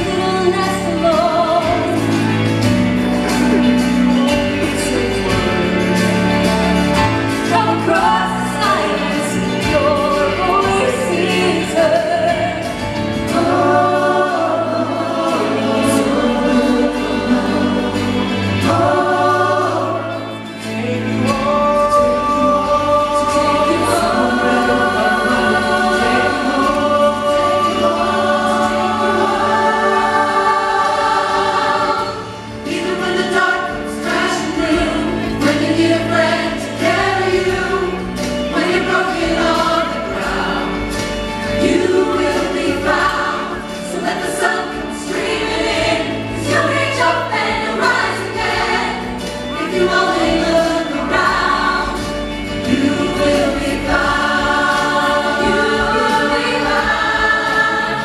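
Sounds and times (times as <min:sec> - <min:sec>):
ensemble singing in harmony: 0:00.0 - 0:58.0.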